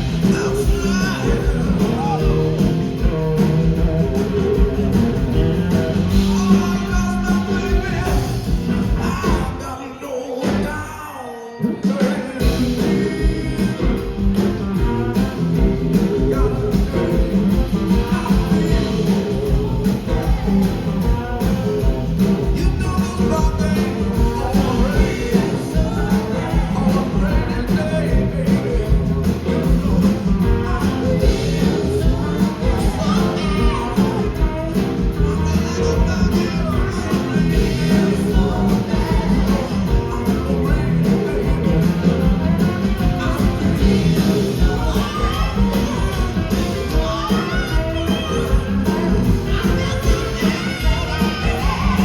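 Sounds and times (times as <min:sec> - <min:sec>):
blues-rock band playing: 0:00.0 - 0:52.0.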